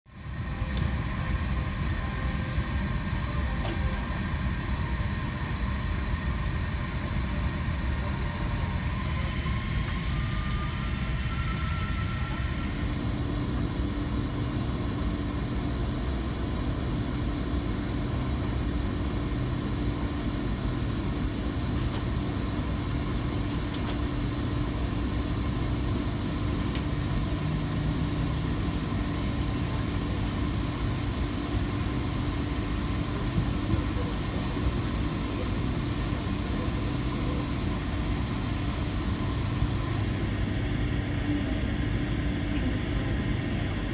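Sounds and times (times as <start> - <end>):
steady hum: 0.2 - 17.1, 22.3 - 43.1
jet engines rumbling: 0.2 - 43.0.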